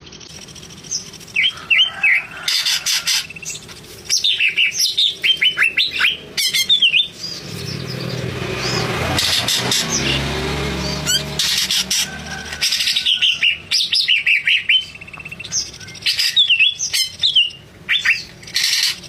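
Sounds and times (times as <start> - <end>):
bird whistling song: 0.4 - 10.2, 10.8 - 19.0.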